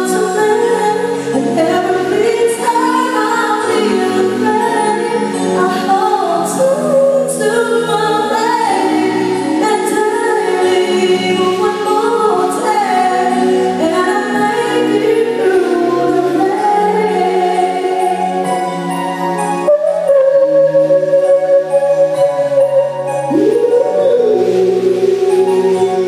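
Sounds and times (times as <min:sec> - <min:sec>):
live band playing: 0:00.0 - 0:26.0
woman singing through microphone: 0:00.0 - 0:26.0.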